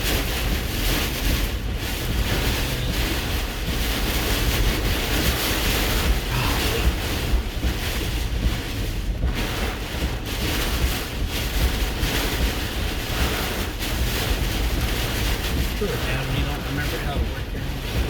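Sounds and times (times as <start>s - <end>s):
strong wind gusting around vehicle: 0.0s - 18.0s
wind rumble on microphone: 0.0s - 18.0s.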